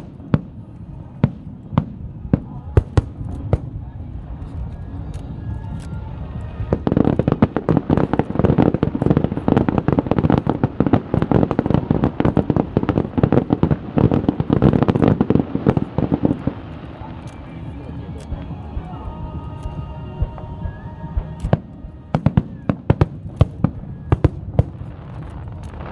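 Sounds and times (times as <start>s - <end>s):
fireworks cracking and banging: 0.0s - 25.9s.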